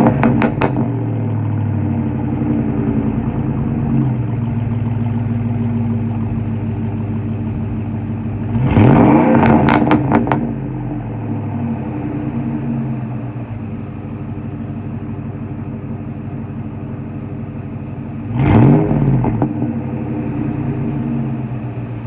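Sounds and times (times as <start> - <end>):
exhaust pops: 0.0 - 14.6, 18.2 - 22.0
truck engine idling and revving: 0.0 - 22.0.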